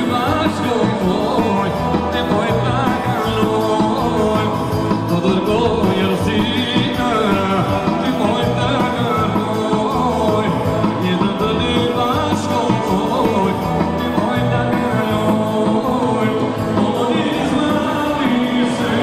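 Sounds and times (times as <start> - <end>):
folk dance music with singing: 0.0 - 19.0.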